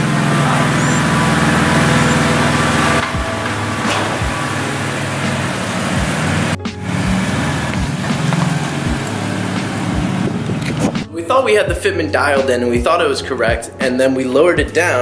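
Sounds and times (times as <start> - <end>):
car engine humming: 0.0 - 13.5.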